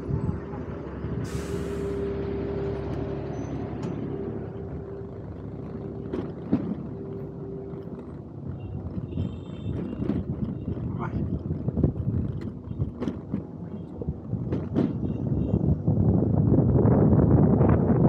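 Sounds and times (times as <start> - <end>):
road and traffic noise: 0.0 - 18.0
steady scooter hum: 1.9 - 18.0.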